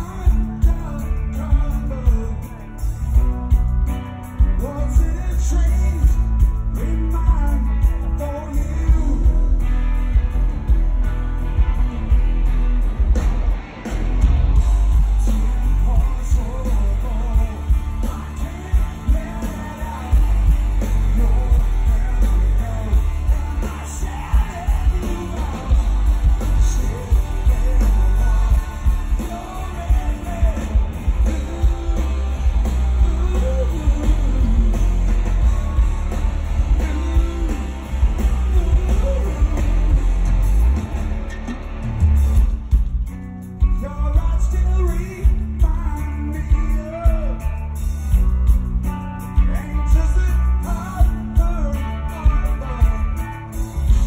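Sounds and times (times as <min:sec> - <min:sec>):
male lead vocal: 0:00.0 - 0:12.2, 0:14.5 - 0:41.6, 0:43.6 - 0:48.2, 0:49.2 - 0:54.0
rock band playing live: 0:00.0 - 0:54.0.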